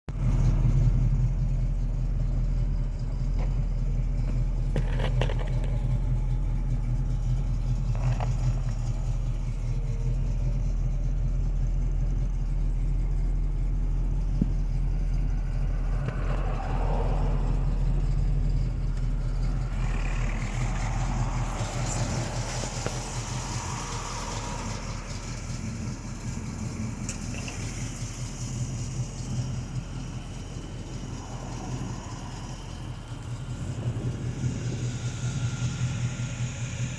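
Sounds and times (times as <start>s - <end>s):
car engine rumbling: 0.1s - 36.9s.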